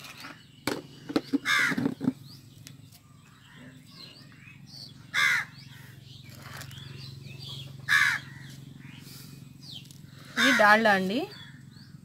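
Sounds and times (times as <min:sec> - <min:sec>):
loud bird calls: 0:00.0 - 0:12.0.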